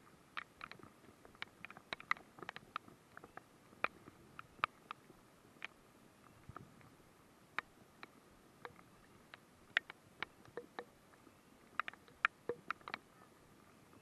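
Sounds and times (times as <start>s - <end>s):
faint hiss of rain: 0.0s - 14.0s
raindrops ticking near microphone: 0.0s - 14.0s.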